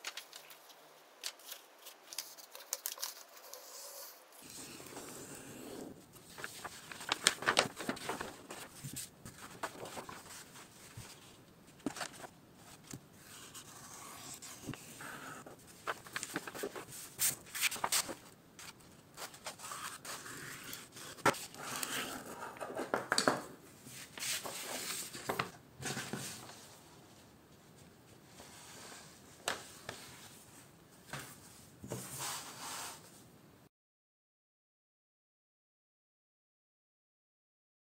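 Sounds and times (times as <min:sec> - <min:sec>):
parchment rustling and crinkling: 0:00.0 - 0:30.5.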